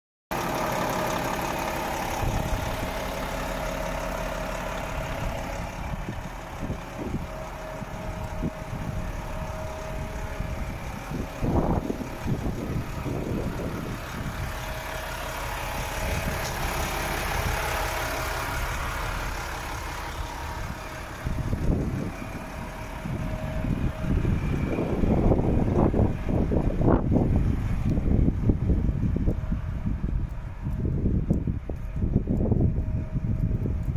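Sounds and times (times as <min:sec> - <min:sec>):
diesel truck engine idling: 0:00.3 - 0:33.9
wind noise on microphone: 0:02.0 - 0:03.1, 0:04.8 - 0:18.1, 0:20.3 - 0:33.9.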